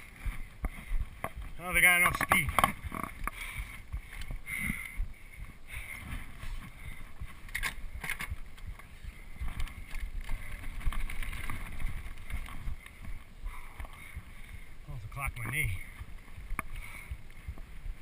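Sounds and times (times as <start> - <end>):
bike rumbling and rattling: 0.0 - 18.0.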